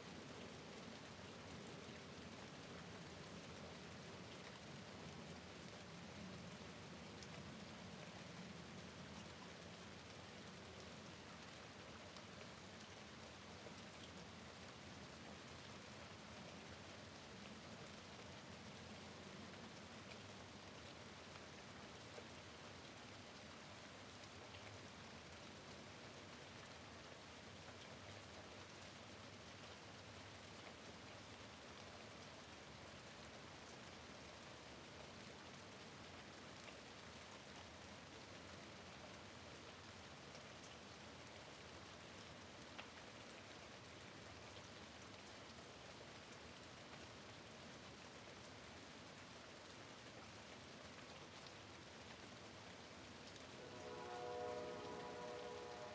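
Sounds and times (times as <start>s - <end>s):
soft rain at a window: 0.0s - 55.9s.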